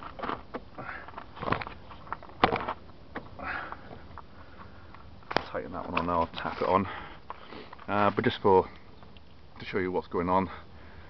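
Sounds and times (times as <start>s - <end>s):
light clicks and rustles: 0.0s - 9.7s.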